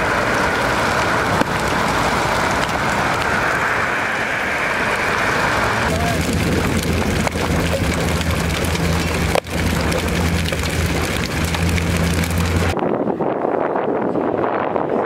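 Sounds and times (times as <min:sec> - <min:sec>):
hail rattling: 0:00.0 - 0:12.8
vehicle engine hum: 0:00.0 - 0:15.0
wind buffeting microphone: 0:00.0 - 0:15.0.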